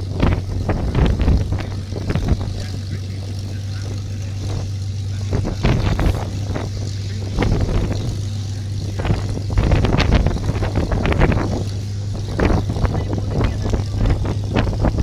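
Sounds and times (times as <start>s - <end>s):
aircraft engine droning: 0.0s - 15.0s
engine pops and crackles: 0.0s - 15.0s.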